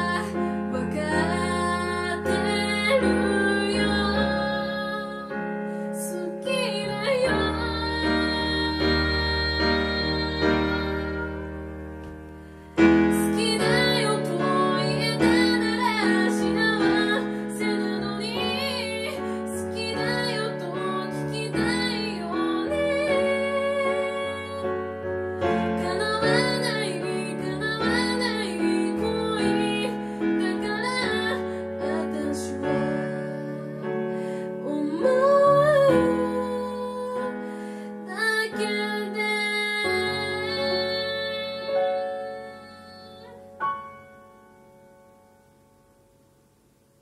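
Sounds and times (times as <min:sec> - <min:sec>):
woman singing: 0:00.0 - 0:11.8, 0:12.8 - 0:43.6
electronic keyboard piano chords: 0:00.0 - 0:46.4.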